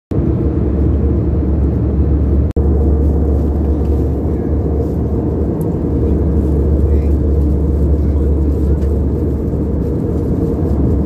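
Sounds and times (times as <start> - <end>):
airliner cabin engine drone: 0.1 - 11.0.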